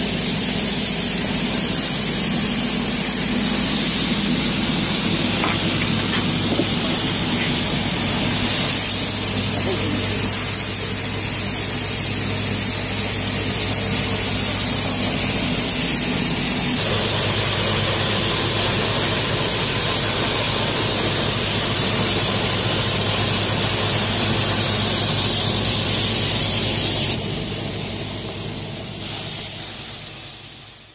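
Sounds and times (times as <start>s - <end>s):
low machine hum: 0.0s - 26.6s
winnowing machine fan hiss: 0.0s - 30.9s.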